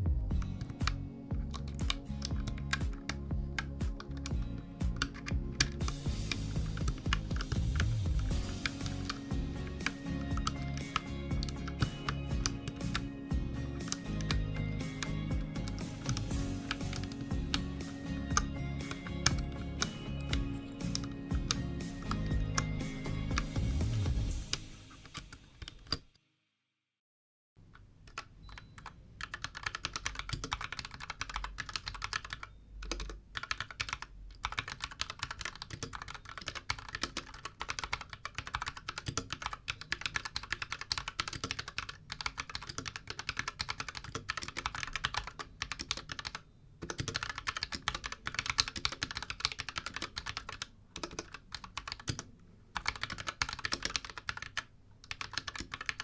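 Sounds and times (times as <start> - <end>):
mechanical keyboard typing: 0.4 - 23.7, 24.4 - 26.0, 27.8 - 56.0.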